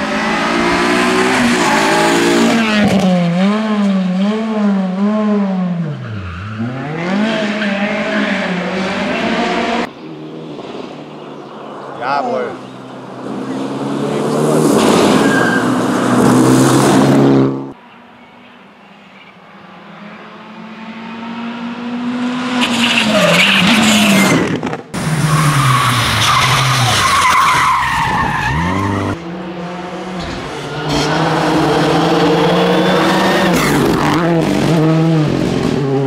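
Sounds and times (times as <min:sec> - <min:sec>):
rally car engines revving: 0:00.0 - 0:18.3, 0:19.2 - 0:36.0
tyre and road noise: 0:00.0 - 0:36.0.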